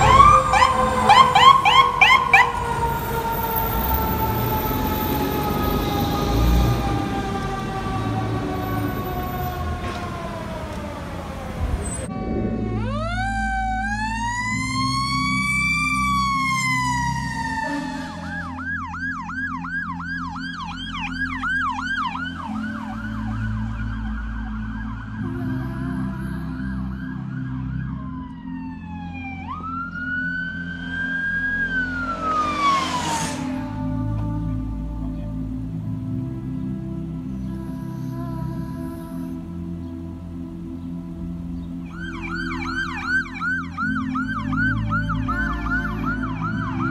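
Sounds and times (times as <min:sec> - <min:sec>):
emergency vehicle sirens: 0:00.0 - 0:37.8, 0:38.5 - 0:46.9.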